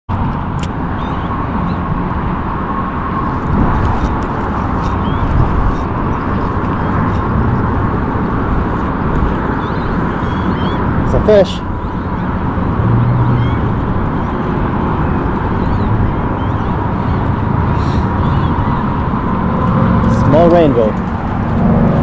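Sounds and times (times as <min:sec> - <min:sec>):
wind on microphone: 0:00.1 - 0:22.0.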